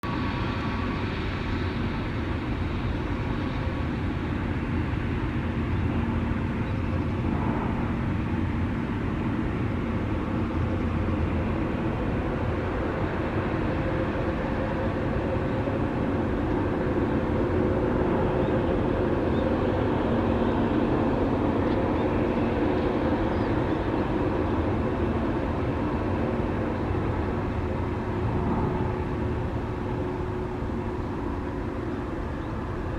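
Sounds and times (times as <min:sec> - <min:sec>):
jet engine rumble and whine: 0:00.0 - 0:32.9.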